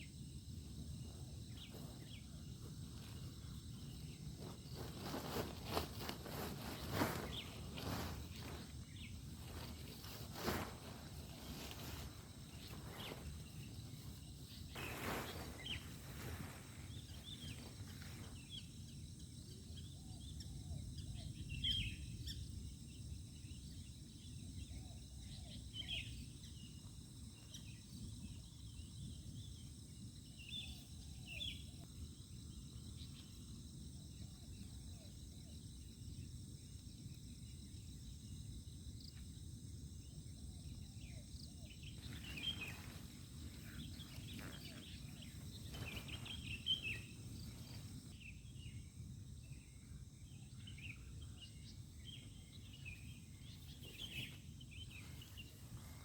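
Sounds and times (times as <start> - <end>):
night insects droning: 0.0 - 56.0.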